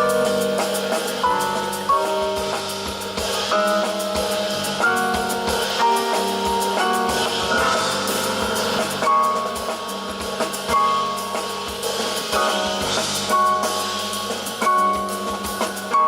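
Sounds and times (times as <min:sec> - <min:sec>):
bass: 0:00.0 - 0:16.0
drum kit with cymbals: 0:00.0 - 0:16.0
piano chords and melody: 0:00.0 - 0:16.0.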